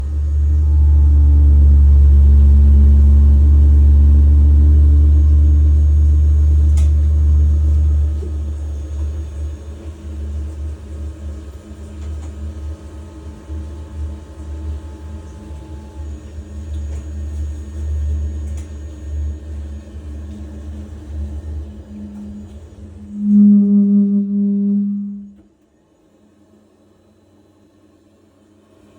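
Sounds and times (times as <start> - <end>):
boiler rumbling hum: 0.0 - 25.4.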